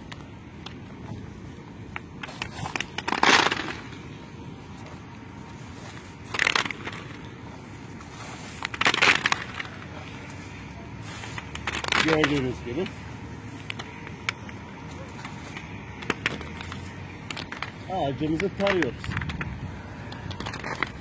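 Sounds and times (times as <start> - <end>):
rustling leaves and twigs: 0.0 - 21.0.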